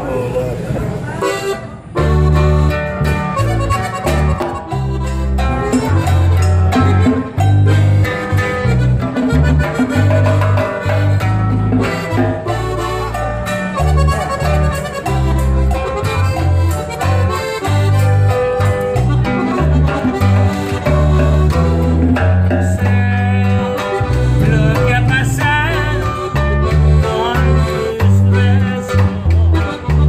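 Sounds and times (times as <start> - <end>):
accordion melody: 1.1 - 30.0
acoustic guitar strumming: 1.2 - 30.0.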